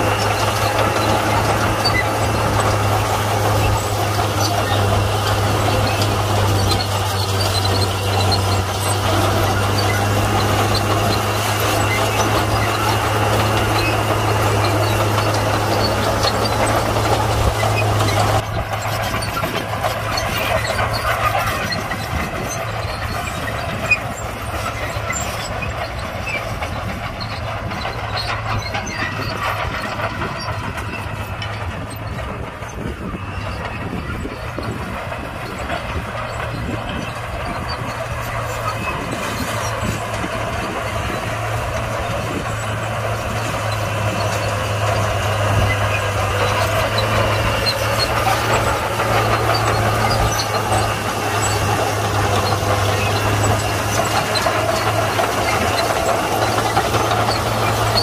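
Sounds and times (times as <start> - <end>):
diesel engine hum: 0.0 - 58.0
rough mechanical clatter: 0.0 - 58.0.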